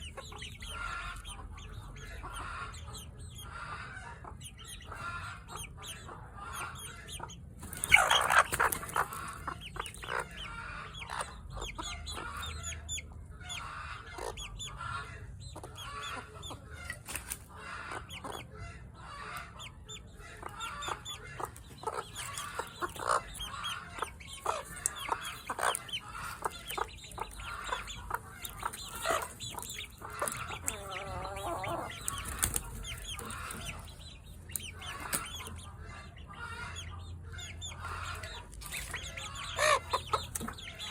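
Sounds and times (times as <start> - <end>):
chicken squawking: 0.0 - 12.9, 13.5 - 40.9
chickens clucking: 0.0 - 40.9.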